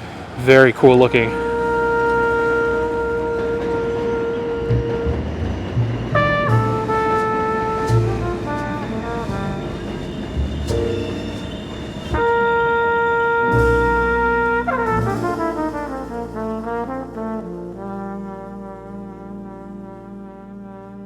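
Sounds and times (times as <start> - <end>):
background music: 0.4 - 21.0.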